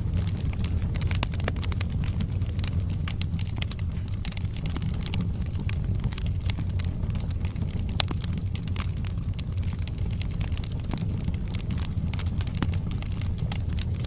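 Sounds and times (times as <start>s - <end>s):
burning logs crackling and popping: 0.0s - 14.0s
low rumble of flames: 0.0s - 14.0s.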